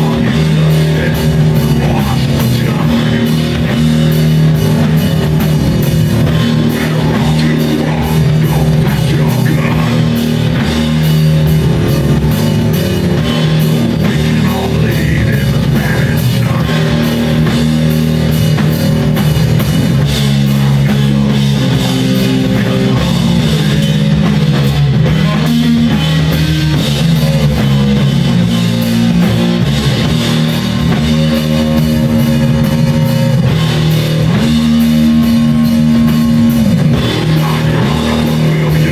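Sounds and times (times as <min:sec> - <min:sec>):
bass guitar riffing: 0:00.0 - 0:38.9
drum kit: 0:00.0 - 0:38.9
electric guitar riffing: 0:00.0 - 0:38.9.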